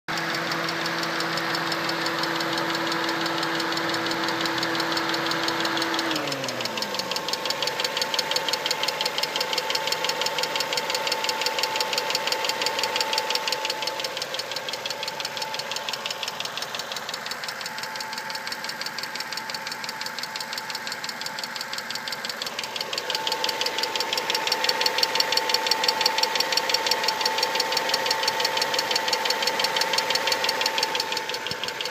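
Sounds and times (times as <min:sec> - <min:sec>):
car engine running: 0:00.1 - 0:31.9
engine ticking: 0:00.1 - 0:31.9.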